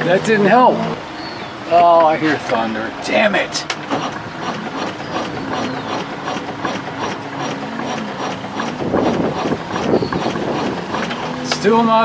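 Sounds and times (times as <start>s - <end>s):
starter cranking engine weakly: 0.0s - 12.0s
regular ticking: 1.8s - 12.0s.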